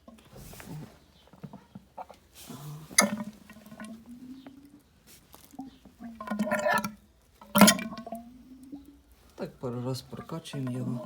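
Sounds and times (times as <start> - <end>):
oil gurgling and squelching: 0.0 - 11.0.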